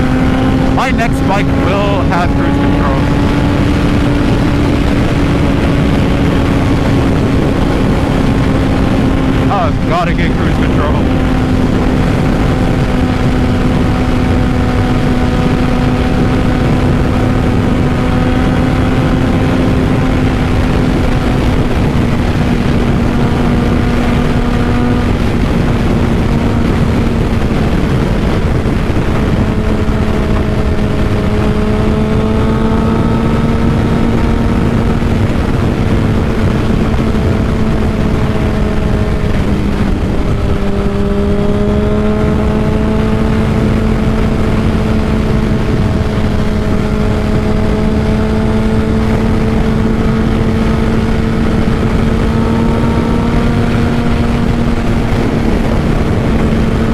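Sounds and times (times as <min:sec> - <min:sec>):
motorcycle engine cruising: 0:00.0 - 0:56.9
wind noise on microphone: 0:00.0 - 0:56.9.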